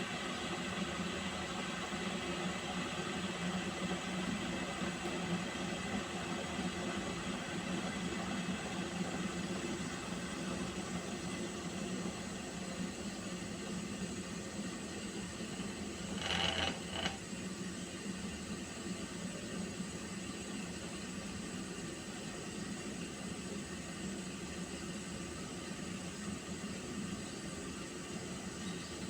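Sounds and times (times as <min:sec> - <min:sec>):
pot of water boiling: 0:00.0 - 0:29.0.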